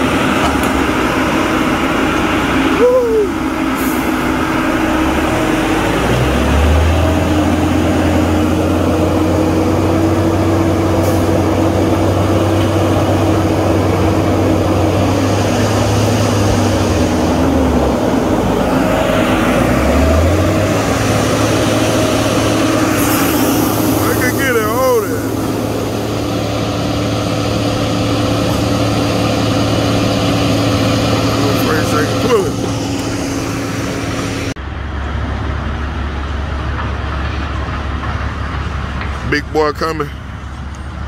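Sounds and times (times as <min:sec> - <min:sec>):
diesel truck engine under load: 0:00.0 - 0:41.0.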